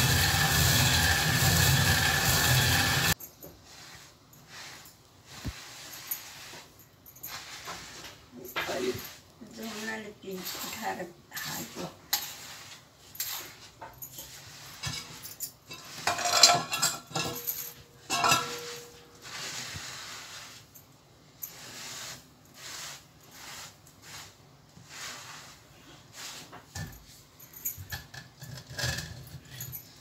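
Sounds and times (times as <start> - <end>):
hand brush sweeping stone floor: 0.0 - 27.9.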